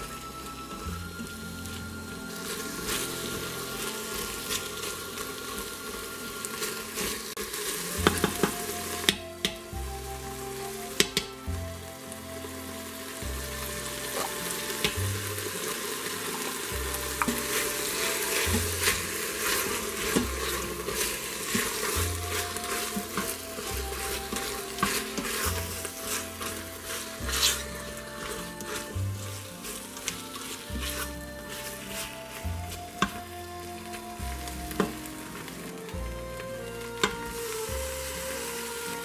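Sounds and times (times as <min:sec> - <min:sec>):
meat and onions sizzling in oil: 0:00.0 - 0:39.0.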